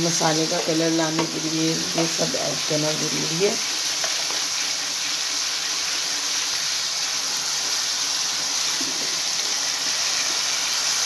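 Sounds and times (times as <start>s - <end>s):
masala frying in hot oil: 0.0s - 11.0s.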